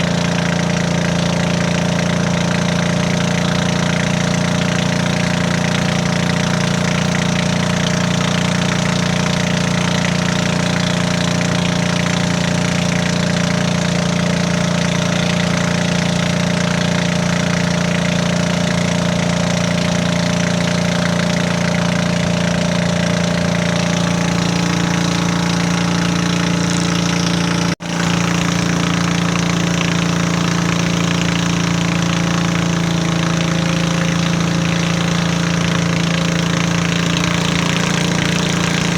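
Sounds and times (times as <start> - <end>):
clattering diesel engine: 0.0 - 38.9.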